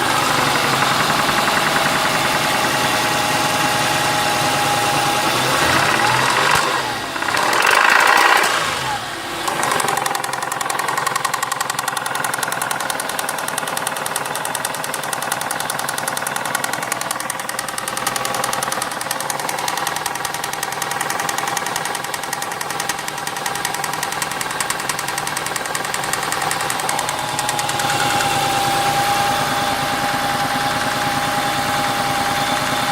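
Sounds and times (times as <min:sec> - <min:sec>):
car engine idling with knocking: 0:00.0 - 0:32.9
engine revving: 0:00.0 - 0:32.9.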